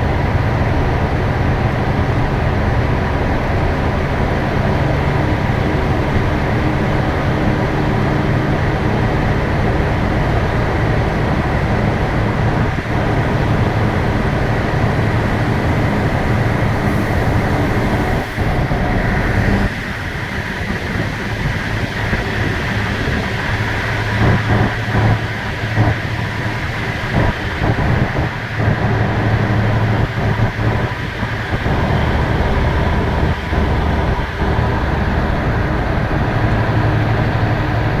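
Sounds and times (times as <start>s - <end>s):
low hum: 0.0s - 38.0s
road noise: 0.0s - 38.0s
vehicle engine drone: 0.0s - 38.0s.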